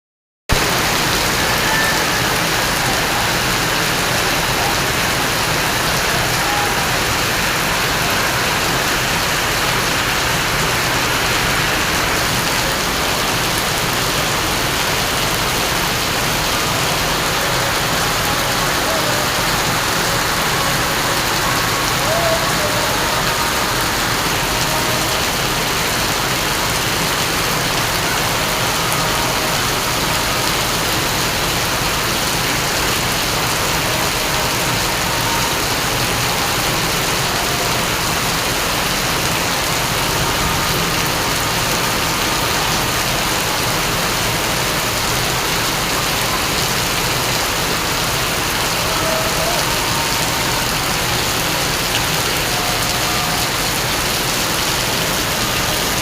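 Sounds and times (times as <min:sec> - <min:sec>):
heavy rain falling: 0:00.5 - 0:56.0.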